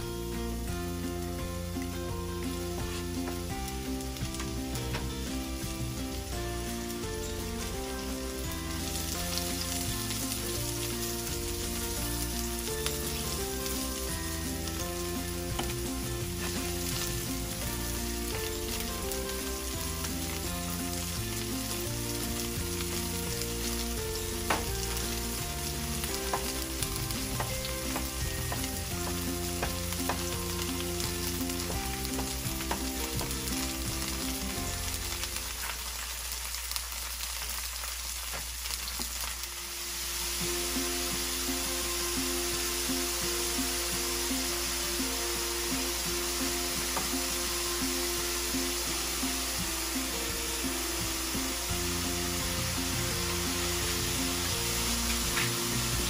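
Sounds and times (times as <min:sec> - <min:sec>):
mushrooms sizzling in a frying pan: 0:00.0 - 0:56.0
utensil stirring in a pan: 0:01.6 - 0:56.0.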